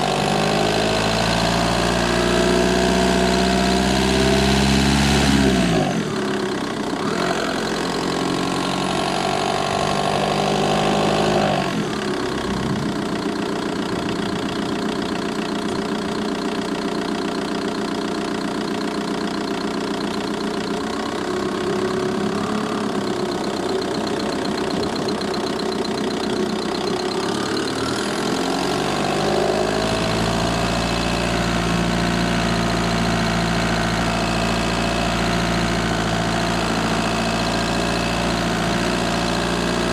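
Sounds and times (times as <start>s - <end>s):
diesel engine running: 0.0s - 39.9s
engine ticking: 5.6s - 39.9s.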